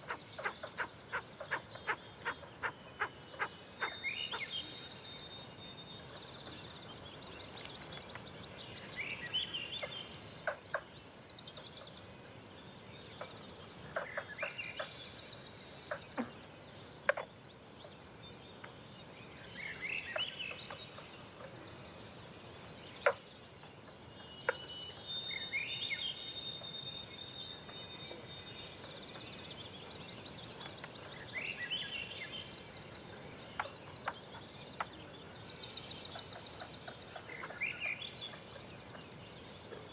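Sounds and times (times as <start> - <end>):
faint steady background noise: 0.0 - 39.9
songbirds singing: 0.0 - 39.9.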